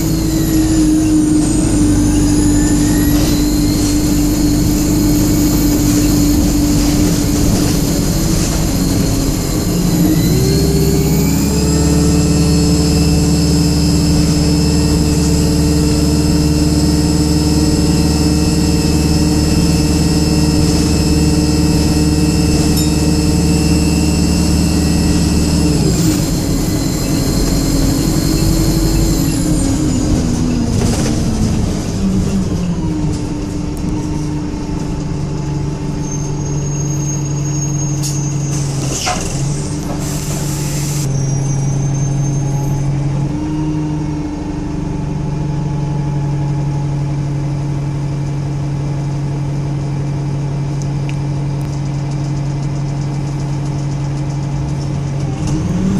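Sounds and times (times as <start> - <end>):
bus engine whining: 0.0 - 55.9.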